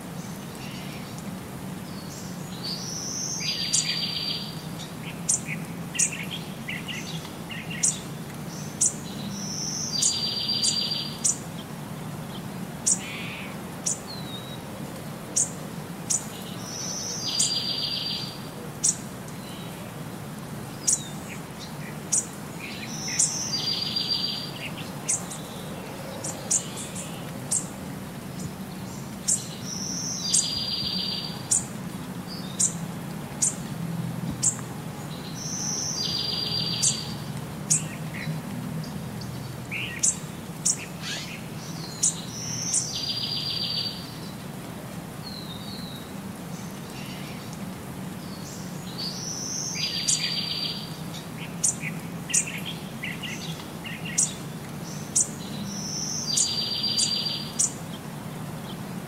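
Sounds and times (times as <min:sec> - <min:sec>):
birds chirping: 0:01.8 - 0:14.7, 0:15.3 - 0:19.9, 0:20.6 - 0:33.7, 0:34.3 - 0:44.5, 0:45.2 - 0:58.9.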